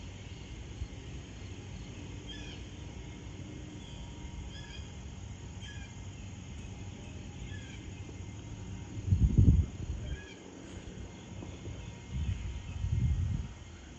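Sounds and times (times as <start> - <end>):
small songbird chirping: 0.0 - 13.9
steady low rumble: 0.0 - 13.9.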